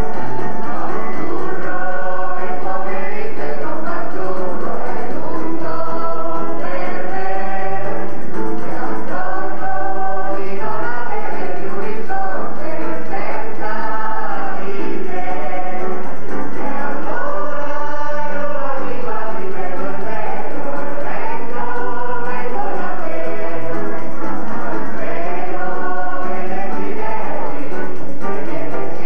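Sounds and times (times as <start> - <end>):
children's choir singing: 0.0 - 29.0
electronic keyboard: 0.0 - 29.0.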